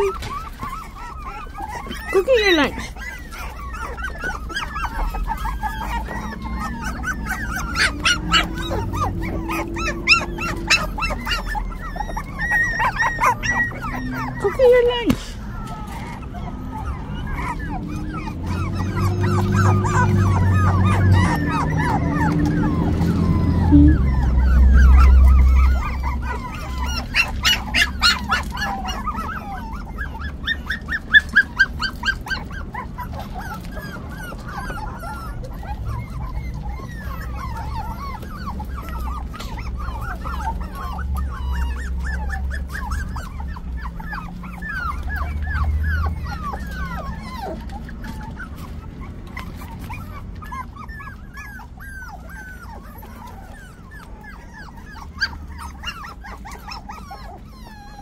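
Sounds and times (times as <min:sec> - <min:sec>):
puppies whining and yipping: 0:00.0 - 0:58.0.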